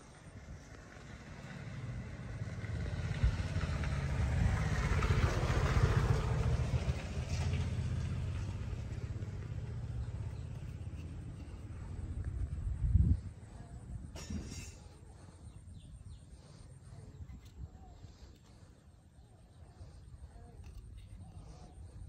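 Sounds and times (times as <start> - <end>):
vehicle passing by: 0.0 - 22.0
low rumble: 0.2 - 22.0.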